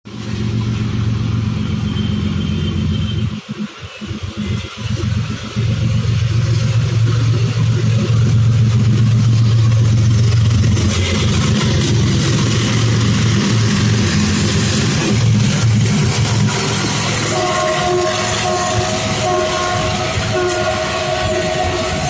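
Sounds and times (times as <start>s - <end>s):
locomotive engine droning: 0.1s - 22.0s
rushing noise: 0.1s - 22.0s.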